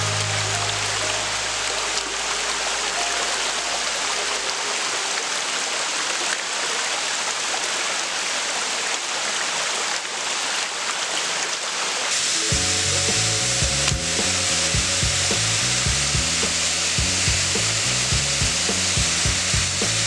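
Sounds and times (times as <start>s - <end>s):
stream flowing over rocks: 0.0s - 20.0s.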